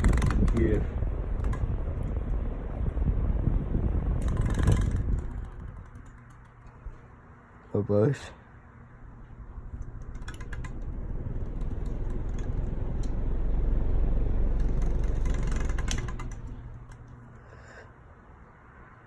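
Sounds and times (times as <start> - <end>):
fan airflow buffeting microphone: 0.0 - 19.0
fan motor hum: 0.0 - 19.0.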